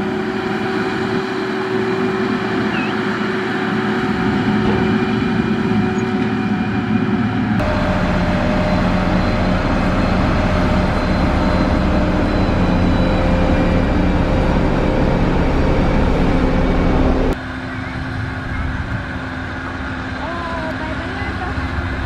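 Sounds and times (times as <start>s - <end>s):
heavy diesel engines under load: 0.0s - 22.0s
quieter engine hum: 0.0s - 22.0s.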